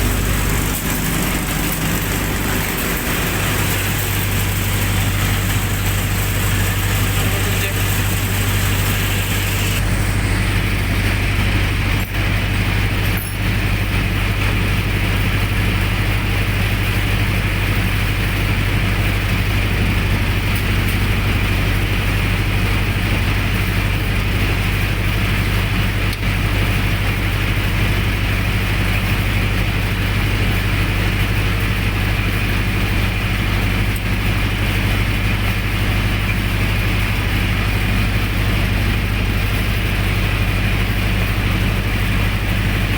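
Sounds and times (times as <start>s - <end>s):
generator engine humming: 0.0s - 42.9s.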